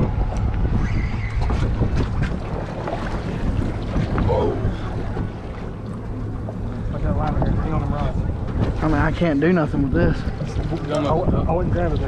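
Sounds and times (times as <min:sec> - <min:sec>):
steady low rumble: 0:00.0 - 0:12.0
wind buffeting microphone: 0:00.0 - 0:12.0.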